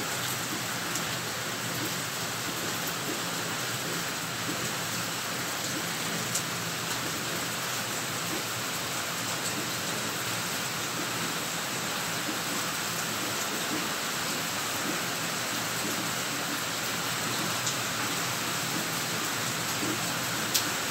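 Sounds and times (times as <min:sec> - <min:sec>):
heavy rain hissing: 0:00.0 - 0:20.9.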